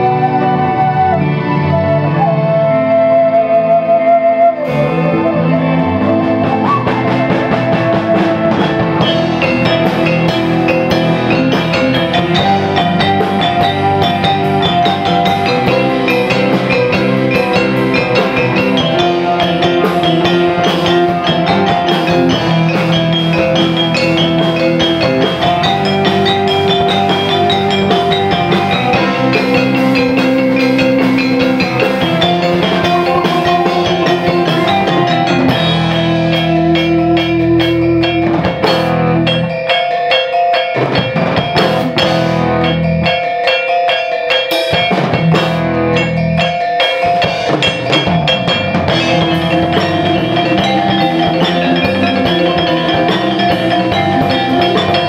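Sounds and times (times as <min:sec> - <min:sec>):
band with drums bass and keyboard: 0:00.0 - 0:55.0
metallophone struck with mallets: 0:09.0 - 0:55.0.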